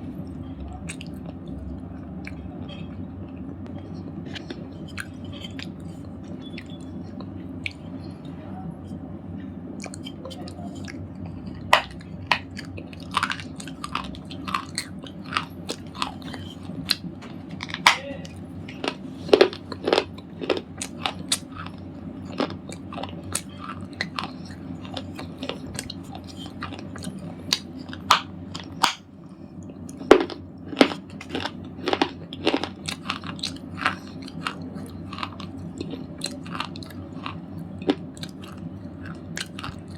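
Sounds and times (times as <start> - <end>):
steady low hum: 0.0 - 39.9
crunching snaps of chewing: 0.1 - 39.9.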